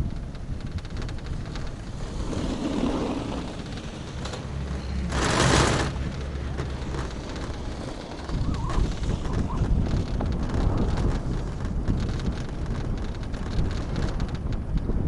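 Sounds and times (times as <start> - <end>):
low rumble of chairlift: 0.0 - 15.0
wind buffeting microphone: 0.0 - 15.0.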